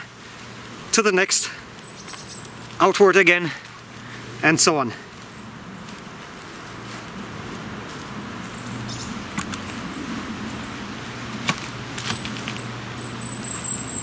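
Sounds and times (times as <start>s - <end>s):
bramble stems rustling and creaking: 0.0s - 14.0s
steady low hum: 0.0s - 14.0s.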